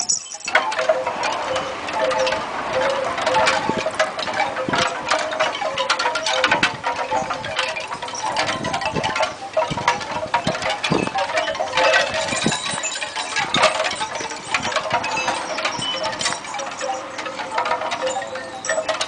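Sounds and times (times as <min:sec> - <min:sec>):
dog collar tags jingling: 0:00.0 - 0:01.5, 0:05.2 - 0:19.0.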